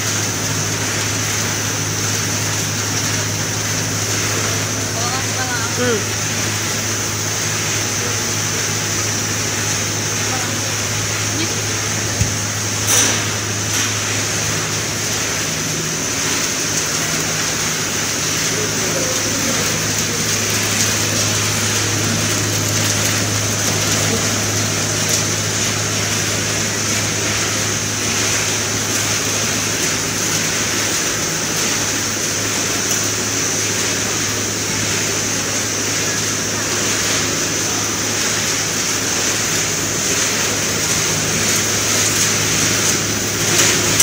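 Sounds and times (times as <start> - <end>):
machinery low hum: 2.1 - 38.2.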